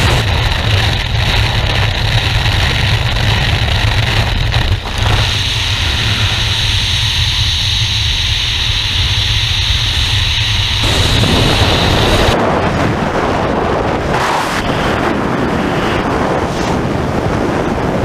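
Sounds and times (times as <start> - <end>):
wind buffeting microphone: 0.0 - 9.0, 9.8 - 18.0
aircraft engine running: 0.0 - 18.0
freefall wind rush: 0.0 - 18.0.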